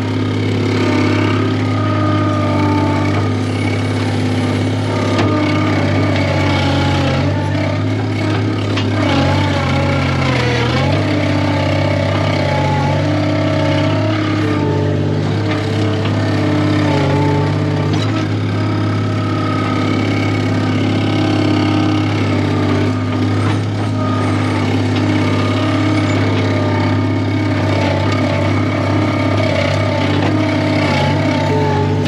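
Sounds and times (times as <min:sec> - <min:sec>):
skid steer engine running: 0:00.0 - 0:32.0.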